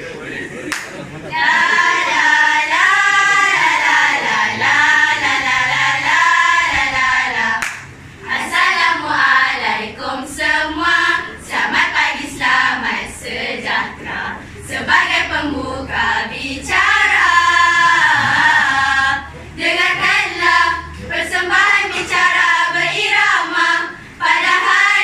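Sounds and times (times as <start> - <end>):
girls' choir singing: 0.0 - 25.0.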